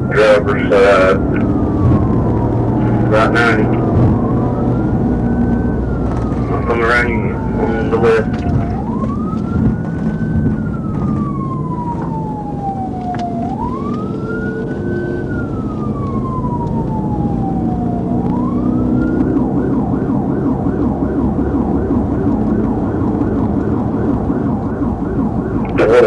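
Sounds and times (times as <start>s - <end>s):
car engine and road noise: 0.0s - 26.0s
police siren wailing and yelping: 0.0s - 26.0s.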